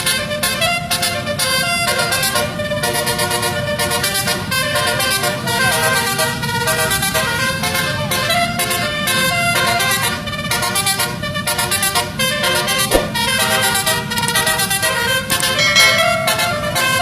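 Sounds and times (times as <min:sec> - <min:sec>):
multi-tone bus horn melody: 0:00.0 - 0:15.6.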